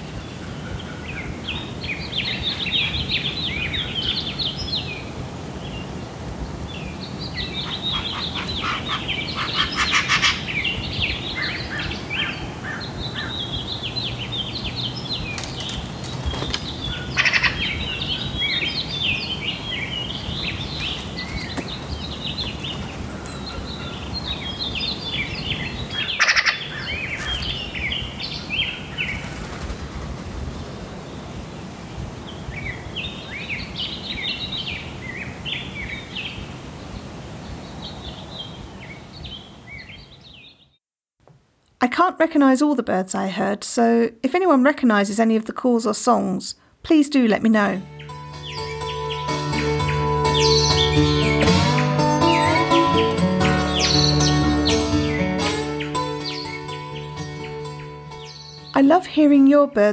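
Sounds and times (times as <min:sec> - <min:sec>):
songbird chirping and warbling: 0:00.0 - 0:06.1, 0:06.7 - 0:29.7, 0:32.3 - 0:40.8, 0:46.0 - 0:59.9.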